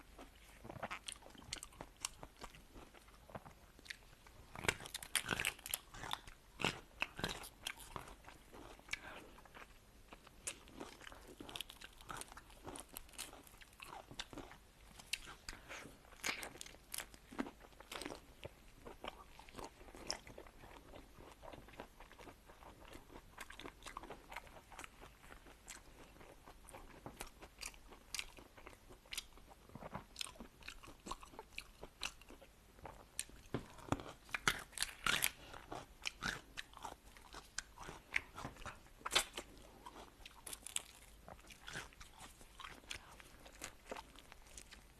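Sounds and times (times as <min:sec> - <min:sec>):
crunching and chewing: 0:00.0 - 0:44.9.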